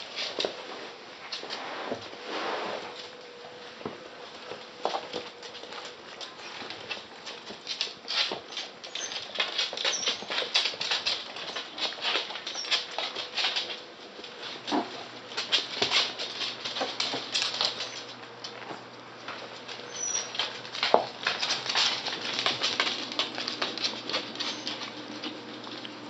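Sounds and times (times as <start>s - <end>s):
puppy claws clicking on wooden floor: 4.4s - 26.0s.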